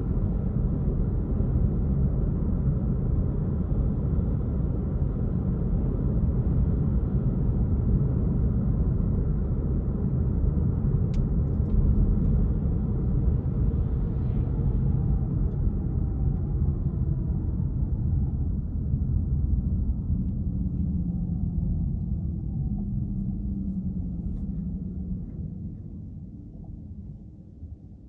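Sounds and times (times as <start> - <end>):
car engine and tyre rumble: 0.0 - 27.9.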